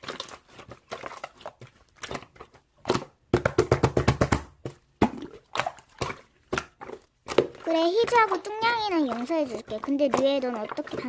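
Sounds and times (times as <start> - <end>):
slime squished by hand: 0.0 - 11.0.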